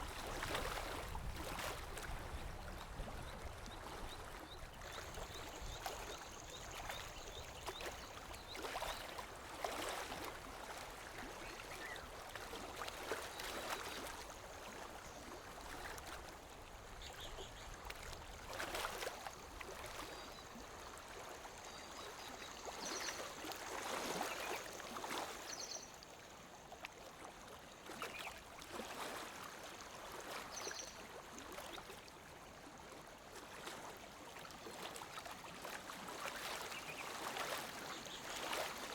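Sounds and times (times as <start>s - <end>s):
lake water lapping on shore: 0.0s - 38.9s.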